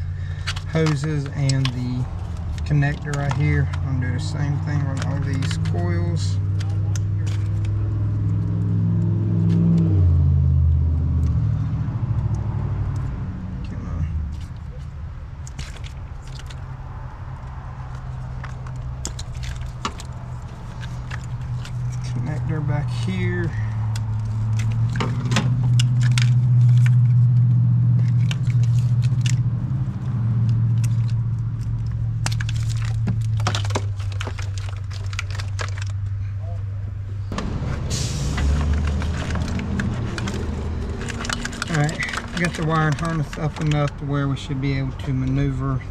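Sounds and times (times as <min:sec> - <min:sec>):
connectors clicking and rattling: 0:00.0 - 0:08.4, 0:12.2 - 0:36.6, 0:38.4 - 0:45.9
engine humming: 0:00.0 - 0:45.9.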